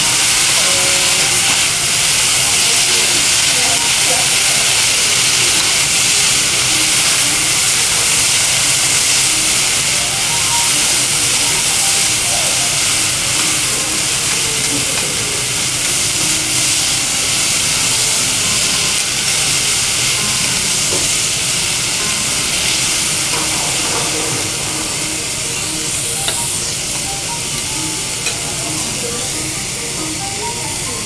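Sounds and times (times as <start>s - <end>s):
food sizzling on a griddle: 0.0s - 31.0s.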